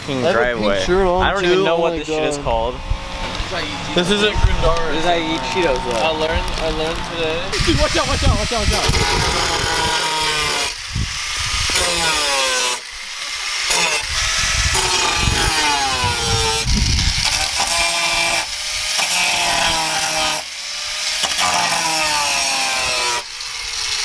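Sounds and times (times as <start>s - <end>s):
angle grinder cutting: 0.0s - 24.0s.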